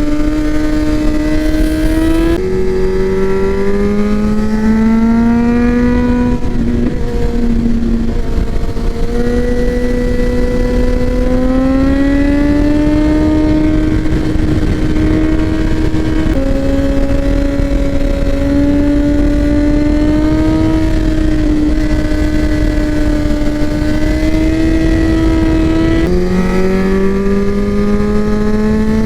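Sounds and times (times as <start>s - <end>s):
motorcycle engine accelerating: 0.0s - 29.0s
wind and road noise: 0.0s - 29.0s.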